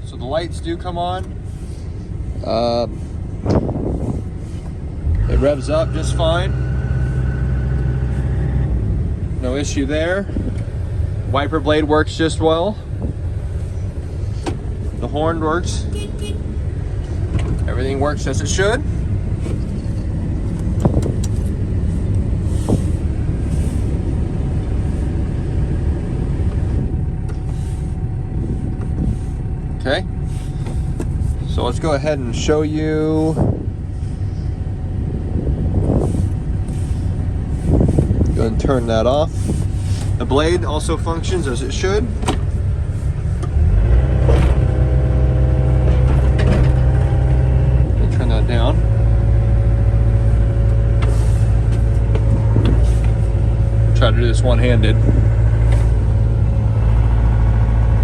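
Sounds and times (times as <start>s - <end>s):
diesel engine low rumble: 0.0s - 58.0s.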